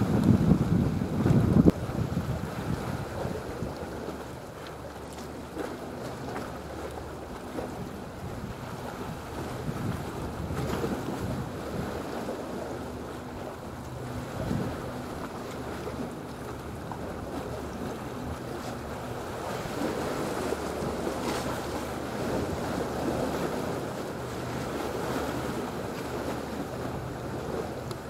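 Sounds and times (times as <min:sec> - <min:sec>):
wind buffeting microphone: 0:00.0 - 0:04.4, 0:05.4 - 0:28.0
boat engine drone: 0:00.0 - 0:28.0
sea waves washing: 0:00.0 - 0:28.0.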